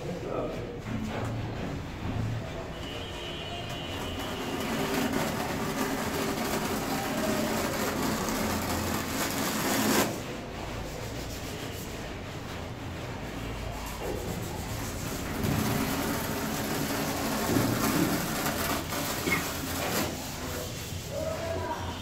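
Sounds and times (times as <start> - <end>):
trowel scraping adhesive on wall: 2.1 - 22.0.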